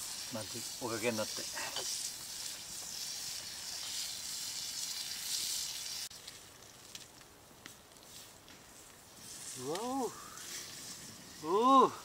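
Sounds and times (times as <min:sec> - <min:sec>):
meat sizzling in a skillet: 0:00.0 - 0:07.0, 0:09.1 - 0:12.0.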